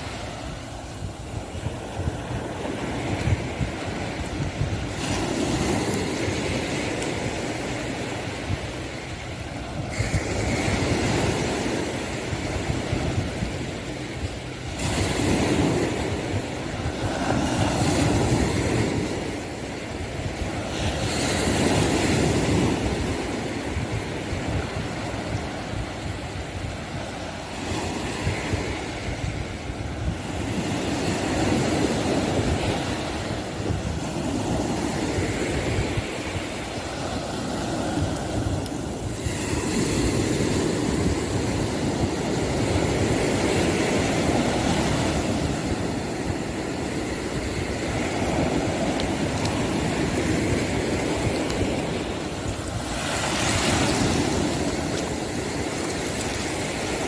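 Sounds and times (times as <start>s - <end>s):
surf washing onto beach: 0.0s - 57.0s
wind rumbling on microphone: 0.0s - 57.0s.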